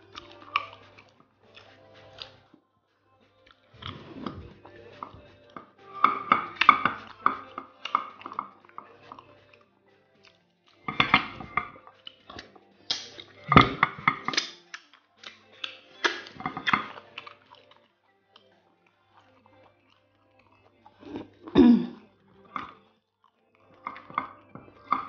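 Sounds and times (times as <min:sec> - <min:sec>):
lips sucking and smacking: 0:00.0 - 0:02.6, 0:03.3 - 0:22.9.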